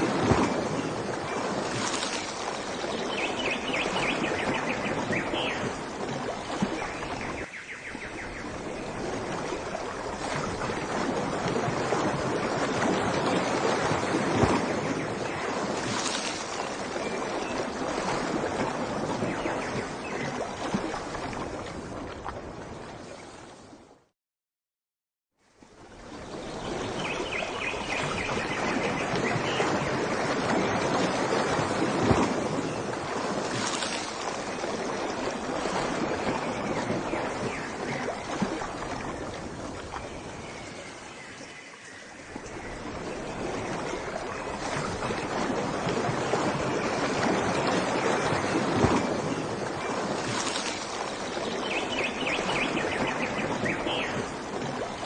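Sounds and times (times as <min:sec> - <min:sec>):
rushing water roar: 0:00.0 - 0:24.0, 0:25.4 - 0:55.0.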